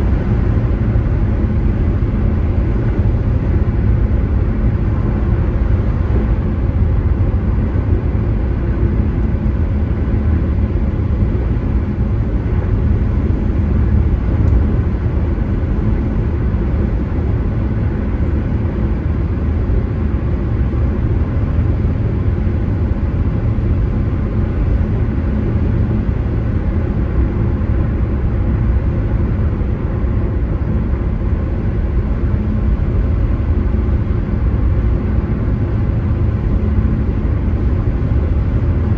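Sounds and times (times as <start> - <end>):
car road noise rumble: 0.0 - 38.9.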